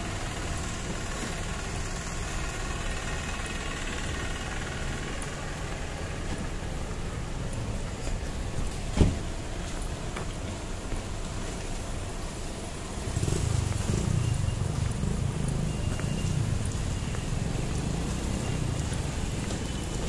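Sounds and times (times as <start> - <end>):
street noise: 0.0 - 20.0
vehicle engine idling: 0.0 - 20.0.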